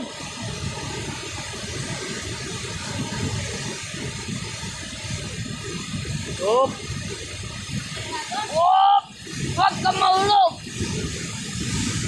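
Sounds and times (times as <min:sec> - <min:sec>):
water rushing through spillway: 0:00.0 - 0:12.0.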